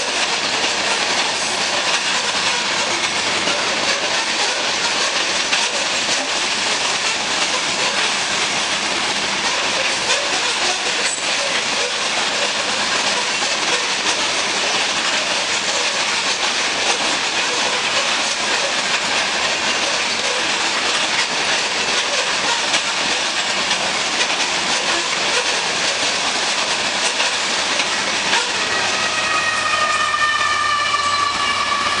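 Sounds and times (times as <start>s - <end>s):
locomotive whine: 0.0s - 32.0s
train wheels rolling on rails: 0.0s - 32.0s.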